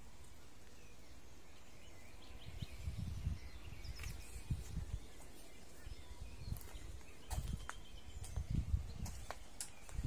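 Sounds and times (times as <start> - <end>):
faint bird chirps: 0.0 - 10.0
low background noise: 0.0 - 10.0.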